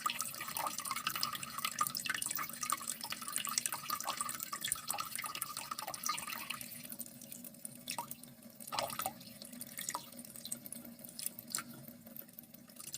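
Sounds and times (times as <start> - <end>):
water dripping and splashing: 0.0 - 12.9.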